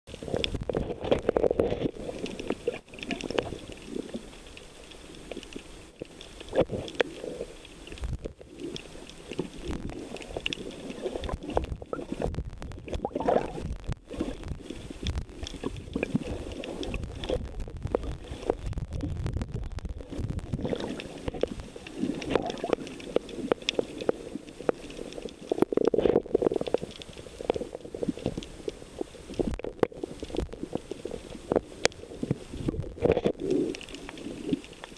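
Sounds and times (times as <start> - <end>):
underwater rumbling and gurgling: 0.1 - 34.9.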